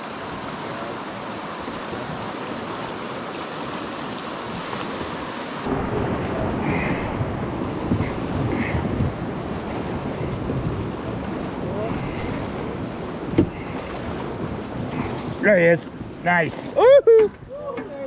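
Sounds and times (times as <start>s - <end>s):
rushing river rapids: 0.0s - 16.8s
wind buffeting microphone: 0.0s - 18.0s.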